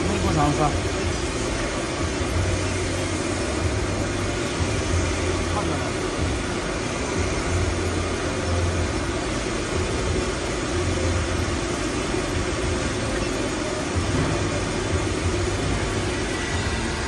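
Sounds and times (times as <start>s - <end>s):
machinery whirring and humming: 0.0s - 17.0s.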